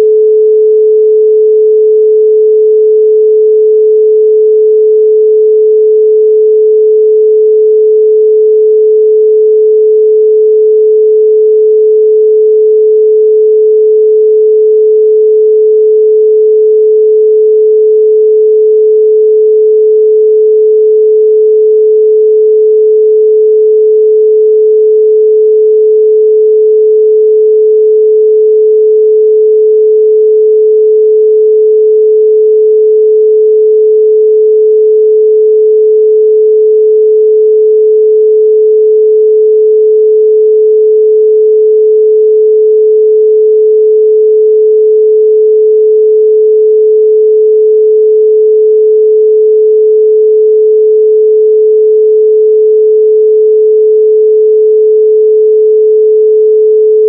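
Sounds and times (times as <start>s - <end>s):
pure sine tone: 0.0s - 57.0s.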